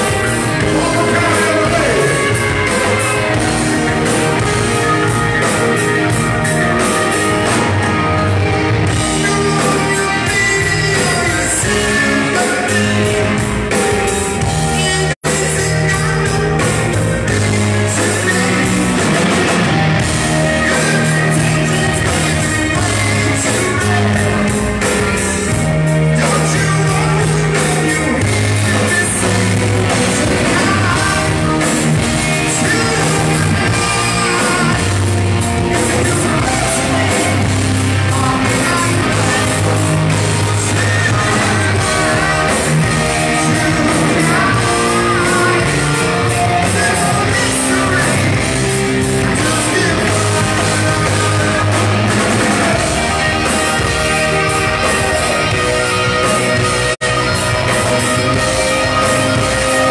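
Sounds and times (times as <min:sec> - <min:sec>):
lead singer singing: 0:00.0 - 0:59.9
live rock band playing: 0:00.0 - 0:59.9.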